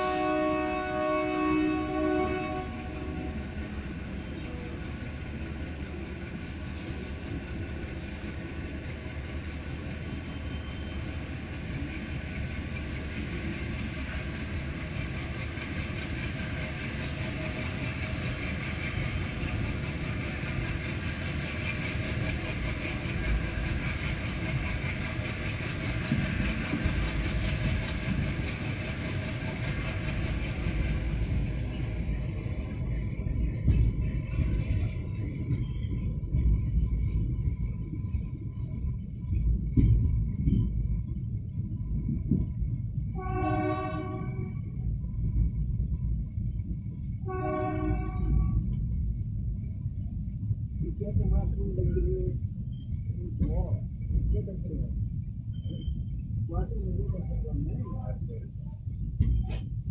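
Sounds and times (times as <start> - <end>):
diesel locomotives chugging: 0.0 - 59.9
train rumbling on track: 0.0 - 59.9.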